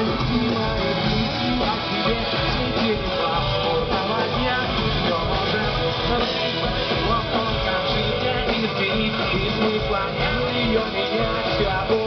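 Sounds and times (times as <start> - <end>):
electric guitar: 0.0 - 12.0
live rock band: 0.0 - 12.0.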